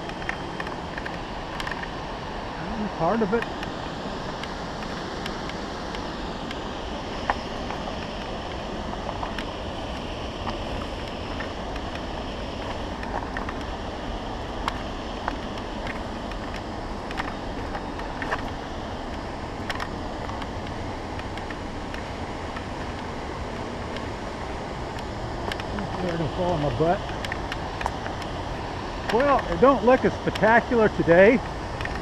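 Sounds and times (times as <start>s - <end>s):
river and waterfall rushing: 0.1s - 32.0s.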